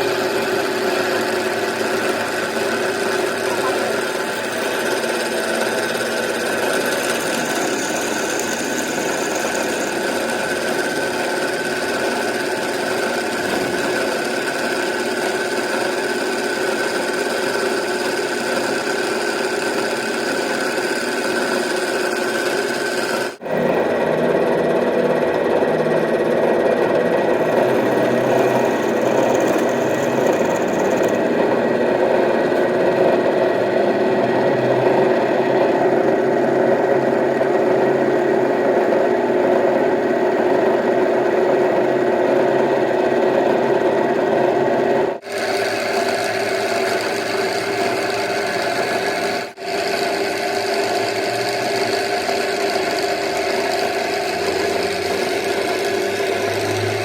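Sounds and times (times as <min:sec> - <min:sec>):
workshop machinery humming: 0:00.0 - 0:57.0.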